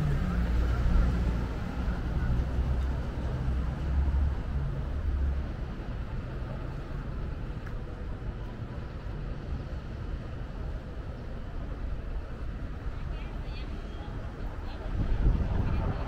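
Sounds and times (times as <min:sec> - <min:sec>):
passing vehicle rumble: 0:00.0 - 0:16.0
steady traffic hum: 0:00.0 - 0:16.0.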